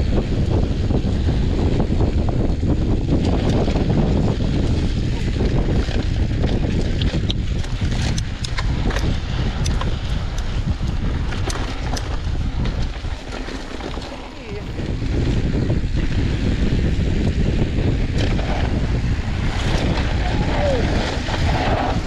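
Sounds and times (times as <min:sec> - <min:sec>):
bike rolling on dirt trail: 0:00.0 - 0:22.0
wind buffeting microphone: 0:00.0 - 0:22.0.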